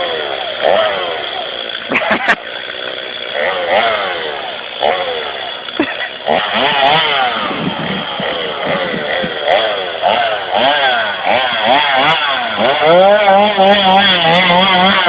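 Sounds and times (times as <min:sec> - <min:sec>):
man imitating a chainsaw: 0:00.0 - 0:15.0.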